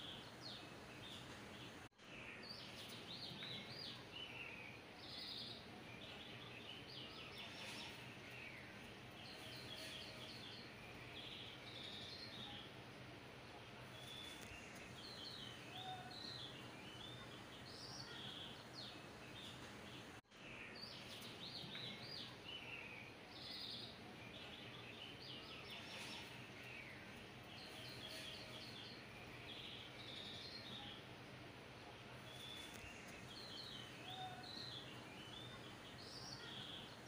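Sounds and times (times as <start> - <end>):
faint bird chirps: 0.0 - 12.8, 13.7 - 31.1, 31.8 - 37.0
steady background hiss: 0.0 - 37.0.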